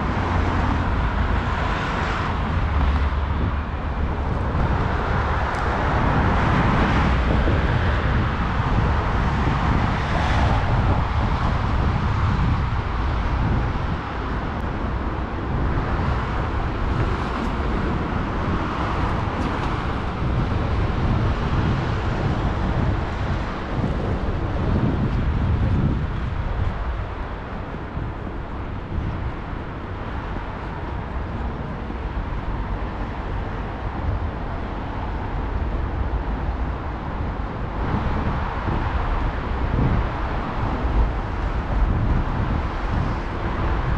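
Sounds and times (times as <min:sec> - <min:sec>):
cars driving past: 0:00.0 - 0:43.9
steady low traffic rumble: 0:00.0 - 0:43.9
wind buffeting microphone: 0:00.0 - 0:43.9.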